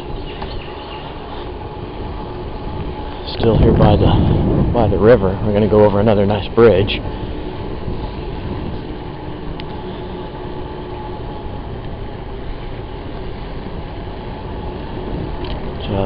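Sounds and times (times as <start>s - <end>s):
bicycle rolling rumble: 0.0s - 16.0s
wind on microphone: 0.0s - 16.0s.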